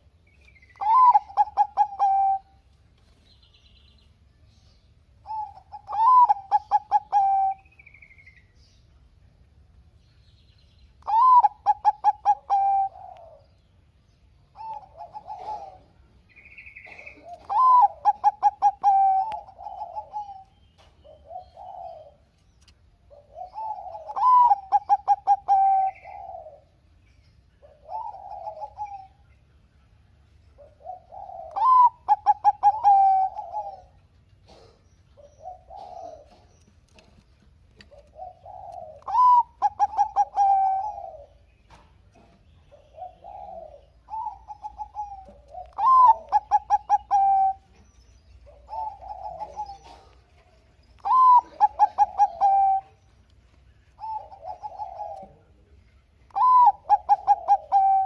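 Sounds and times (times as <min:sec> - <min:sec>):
dove cooing: 0:00.0 - 0:02.7, 0:05.2 - 0:08.1, 0:11.0 - 0:13.6, 0:14.5 - 0:22.4, 0:23.1 - 0:26.9, 0:27.6 - 0:29.5, 0:30.4 - 0:58.0.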